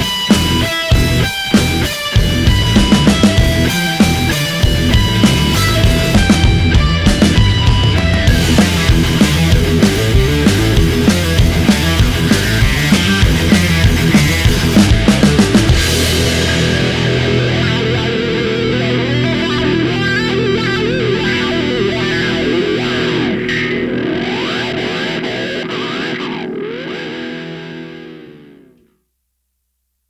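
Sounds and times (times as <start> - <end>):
distorted electric guitar: 0.0 - 28.9.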